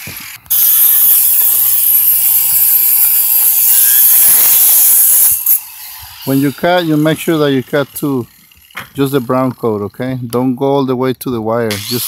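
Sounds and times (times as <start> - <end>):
angle grinder cutting wall: 0.0 - 10.4, 11.7 - 12.0.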